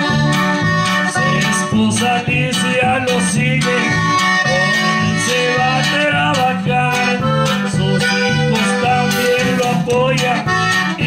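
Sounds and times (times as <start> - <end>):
accordion melody: 0.0 - 11.0
drums with steady beat: 0.0 - 11.0
guitar: 0.0 - 11.0.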